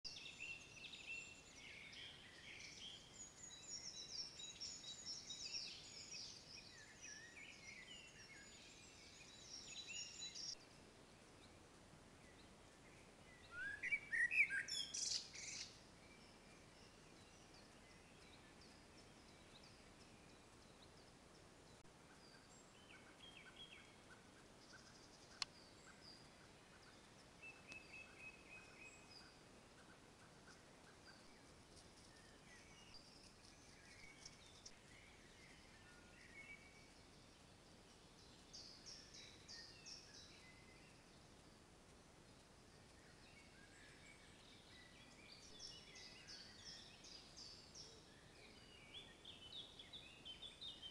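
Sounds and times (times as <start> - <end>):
bird chirps: 0.1 - 11.6, 12.2 - 50.9
birds singing: 0.1 - 50.9.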